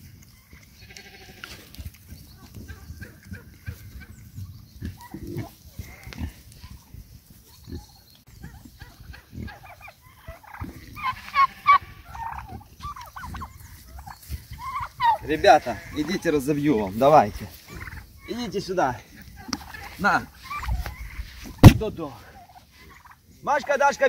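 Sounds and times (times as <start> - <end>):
poultry warbling calls: 0.4 - 24.0.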